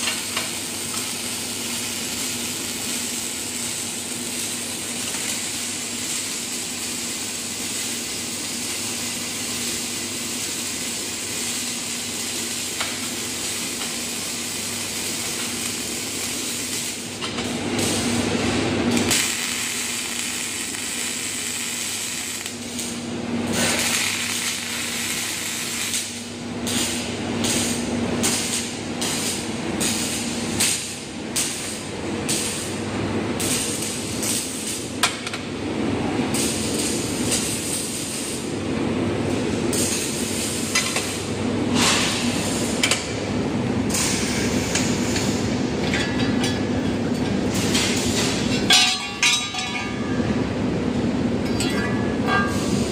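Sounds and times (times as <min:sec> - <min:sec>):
welding arc hissing and crackling: 0:00.0 - 0:45.9, 0:46.7 - 0:50.2, 0:51.7 - 0:52.9
low hum of welding cell: 0:00.0 - 0:52.9.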